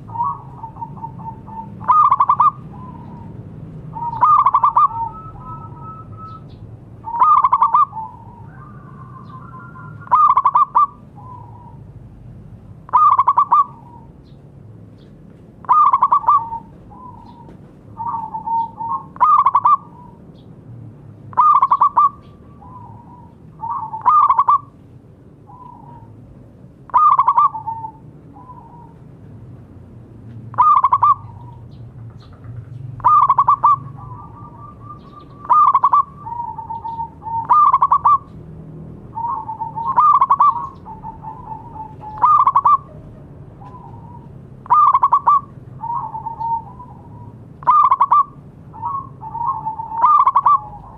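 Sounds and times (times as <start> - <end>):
dove cooing: 0.0 - 12.0, 12.9 - 14.2, 15.6 - 20.2, 21.3 - 24.8, 25.4 - 26.2, 26.9 - 29.1, 30.5 - 38.5, 39.1 - 50.9.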